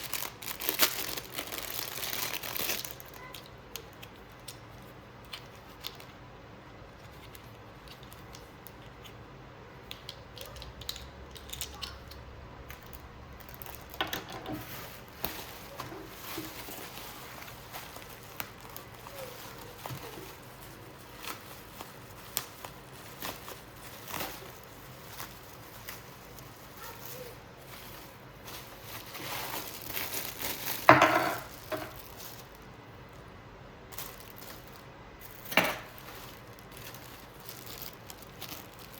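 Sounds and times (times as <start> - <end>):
plastic packaging crinkling: 0.0 - 6.2, 12.6 - 33.3, 33.9 - 38.9.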